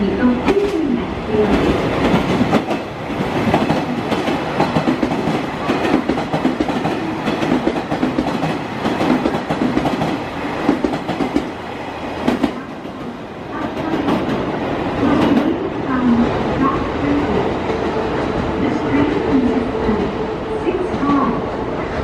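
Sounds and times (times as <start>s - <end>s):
diesel railcars running past: 0.0s - 22.0s.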